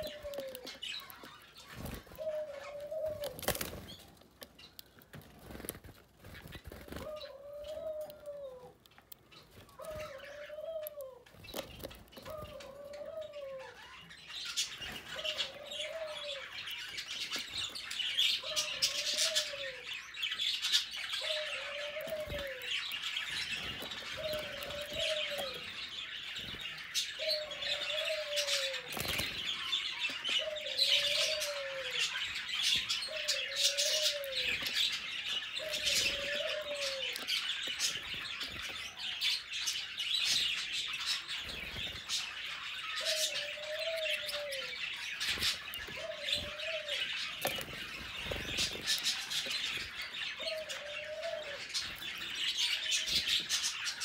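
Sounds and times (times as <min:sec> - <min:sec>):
canaries chirping: 0:00.0 - 0:54.0.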